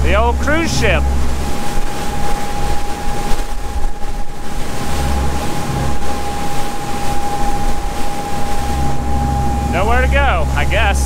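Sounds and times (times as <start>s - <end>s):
thin steady whine: 0.0s - 11.0s
waves washing: 0.0s - 11.0s
wind buffeting microphone: 0.0s - 11.0s.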